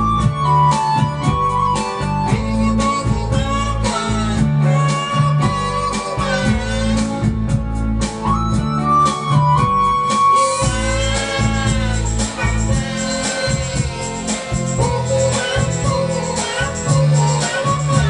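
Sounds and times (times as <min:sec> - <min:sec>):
instrumental music with sliding melody: 0:00.0 - 0:18.0.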